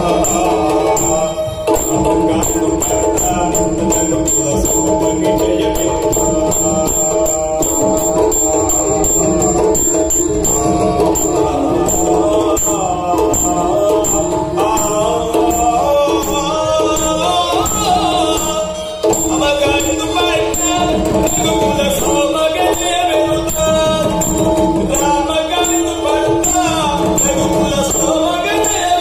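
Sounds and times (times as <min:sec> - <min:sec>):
indian stage music with singing: 0:00.0 - 0:29.0
jingling beat: 0:00.0 - 0:29.0.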